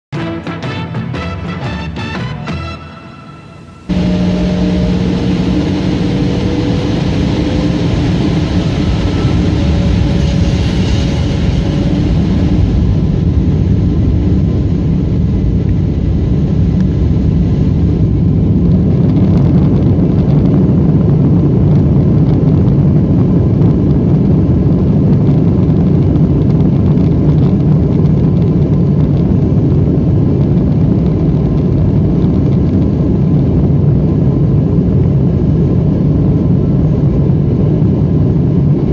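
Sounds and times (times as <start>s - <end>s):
jet engines roaring: 3.5s - 38.9s.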